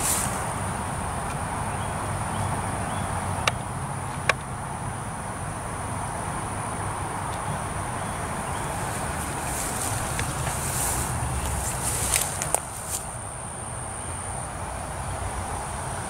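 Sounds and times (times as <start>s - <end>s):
insects droning high-pitched: 0.0s - 16.0s
low outdoor rumble: 0.0s - 16.0s.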